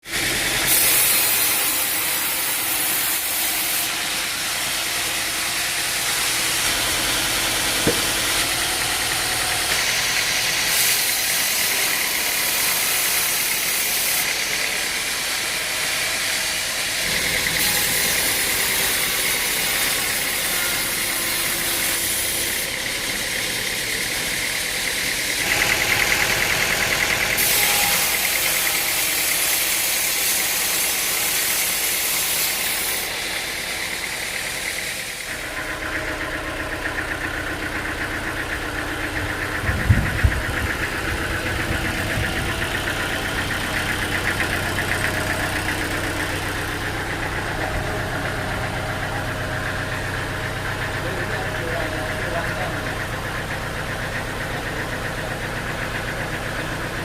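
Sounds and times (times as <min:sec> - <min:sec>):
wood-processing machinery running: 0:00.0 - 0:57.0.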